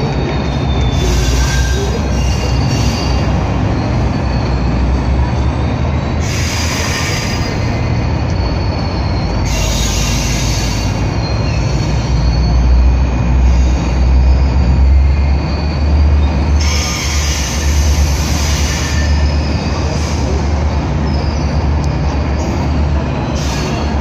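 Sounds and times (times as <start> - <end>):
high wheel squeal: 0.0 - 24.0
train coaches rumbling on track: 0.0 - 24.0.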